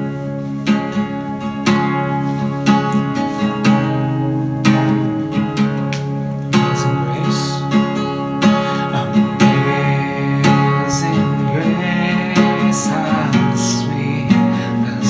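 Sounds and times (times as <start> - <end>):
acoustic guitar strumming: 0.0 - 15.0
wavering melody line: 0.0 - 15.0.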